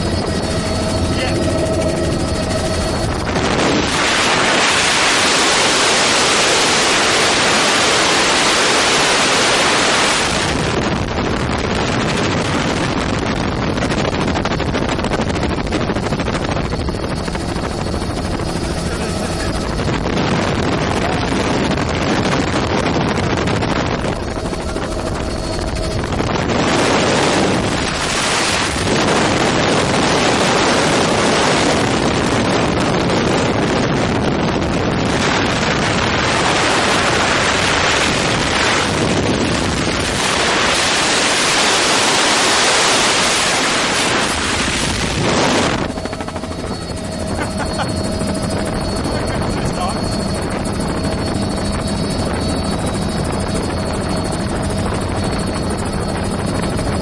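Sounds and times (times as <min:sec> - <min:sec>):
helicopter engine and rotor drone: 0:00.0 - 0:57.0
wind rushing on microphone: 0:00.0 - 0:57.0.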